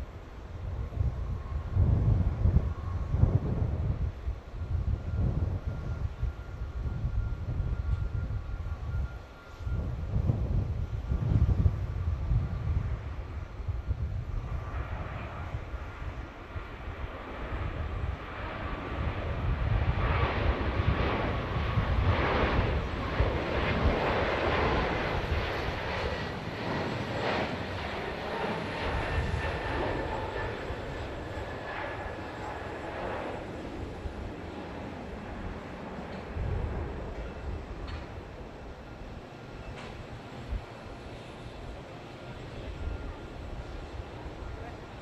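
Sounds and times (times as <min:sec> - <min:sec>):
airliner engine noise: 0:00.0 - 0:45.0
low wind rumble: 0:00.0 - 0:45.0.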